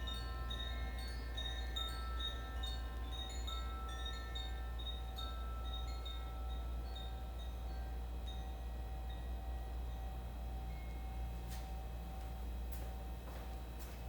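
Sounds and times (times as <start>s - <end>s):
chimes tinkling: 0.0s - 11.4s
steady low hum: 0.0s - 14.0s.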